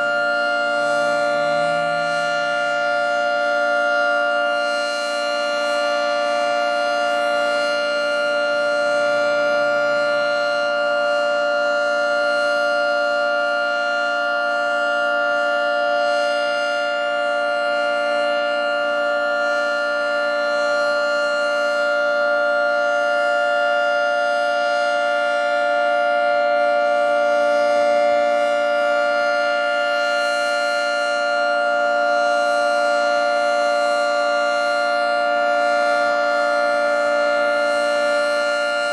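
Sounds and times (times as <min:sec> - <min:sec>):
three-tone siren chord: 0:00.0 - 0:38.9.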